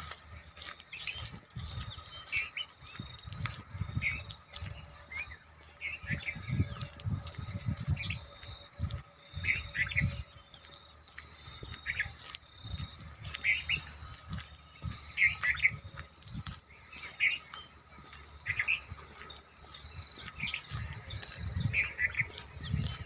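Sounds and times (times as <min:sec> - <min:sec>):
birds chirping: 0:00.0 - 0:23.0
low microphone rumble: 0:00.0 - 0:23.0.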